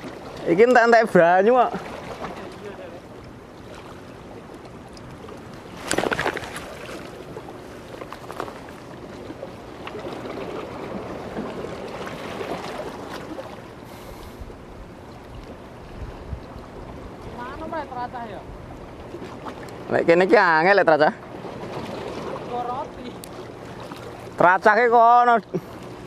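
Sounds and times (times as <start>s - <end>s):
harbour water: 0.0s - 26.0s
steady wind: 0.0s - 26.0s.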